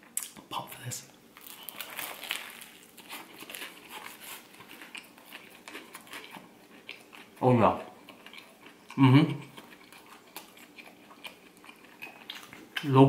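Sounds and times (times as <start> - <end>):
crunchy chewing: 1.4 - 12.9.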